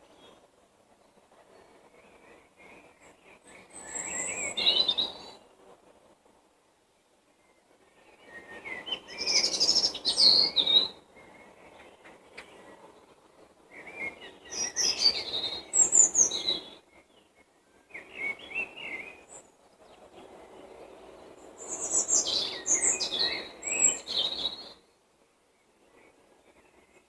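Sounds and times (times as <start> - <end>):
songbirds singing: 0.0 - 5.7, 7.0 - 27.0.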